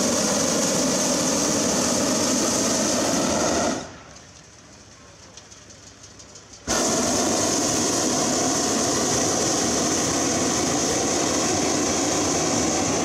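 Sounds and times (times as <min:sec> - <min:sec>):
propane burner roaring: 0:00.0 - 0:13.0.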